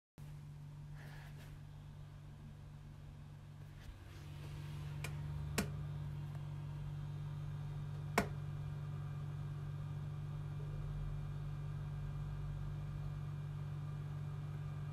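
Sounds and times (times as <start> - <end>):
cooler low buzzing hum: 0.2 - 14.9.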